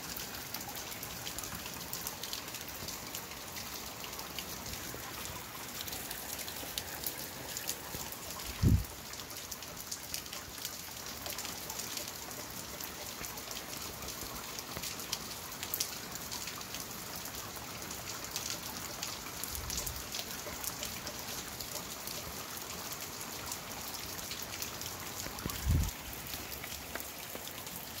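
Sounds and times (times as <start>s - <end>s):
steady rain with raindrop ticks: 0.0s - 28.0s.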